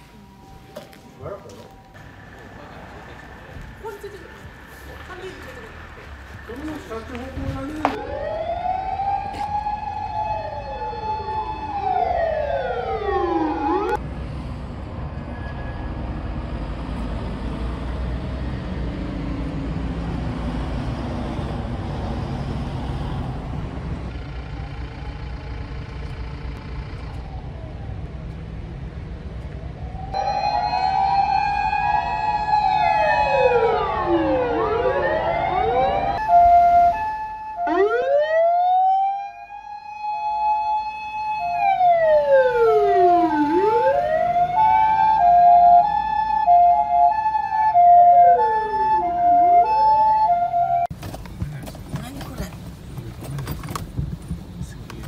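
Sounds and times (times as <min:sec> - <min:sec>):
emergency sirens wailing: 0:00.0 - 0:14.0, 0:17.1 - 0:50.9.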